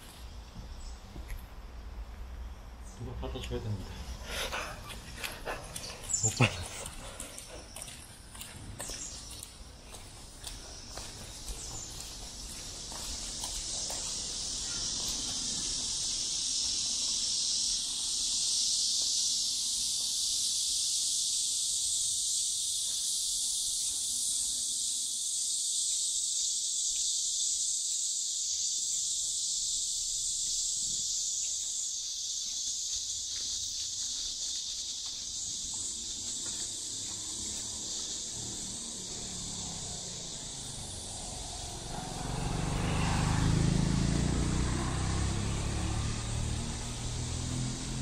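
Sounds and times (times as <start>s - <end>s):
cicadas buzzing: 0.0s - 48.0s.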